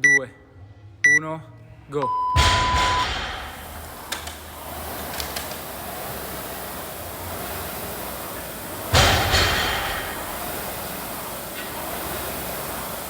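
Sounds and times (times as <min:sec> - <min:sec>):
steady rushing noise: 0:02.4 - 0:13.0.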